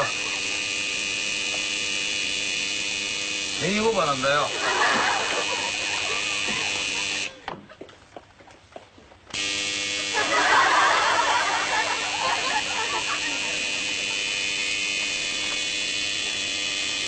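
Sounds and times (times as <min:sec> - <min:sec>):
lift overload buzzer: 0:00.0 - 0:07.4, 0:09.4 - 0:17.0.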